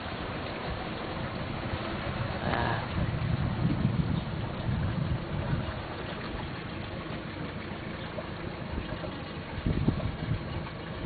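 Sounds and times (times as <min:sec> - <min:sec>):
boat engine and water noise: 0:00.0 - 0:11.0
wind buffeting microphone: 0:00.0 - 0:11.0.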